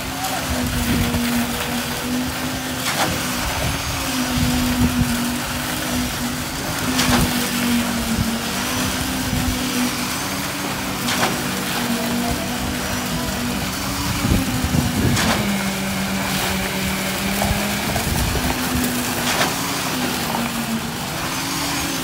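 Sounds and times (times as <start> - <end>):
concrete pump engine hum: 0.0 - 22.0
concrete rushing through hose: 0.0 - 22.0.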